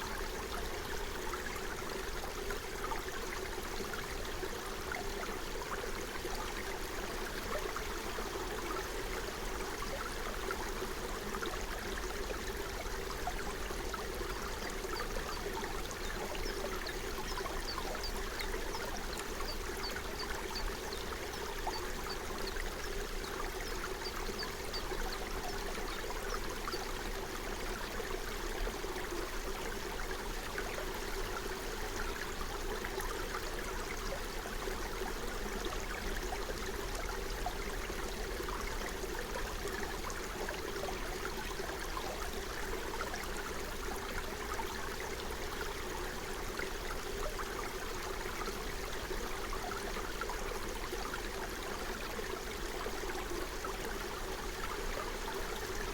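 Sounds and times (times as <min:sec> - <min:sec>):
stream flowing over stones: 0:00.0 - 0:55.9.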